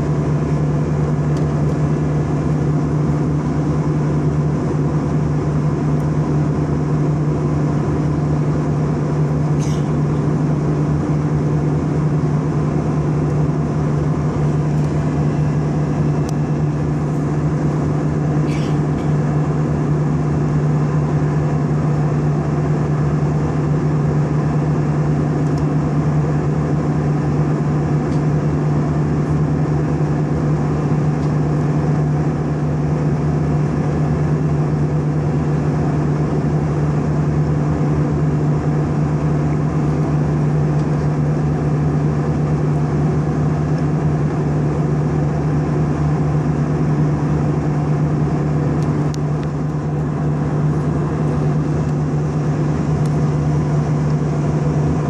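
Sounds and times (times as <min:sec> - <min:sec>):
constant low hum: 0:00.0 - 0:55.0
jet engines droning: 0:00.0 - 0:55.0.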